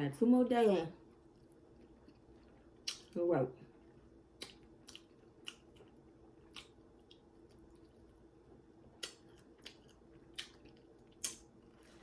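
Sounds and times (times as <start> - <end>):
faint steady hum: 0.0 - 12.0
chewing fried food: 1.0 - 12.0.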